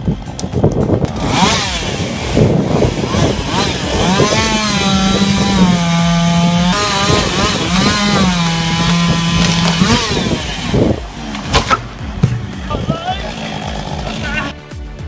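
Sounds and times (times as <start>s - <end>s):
chainsaw cutting wood: 0.0s - 14.6s.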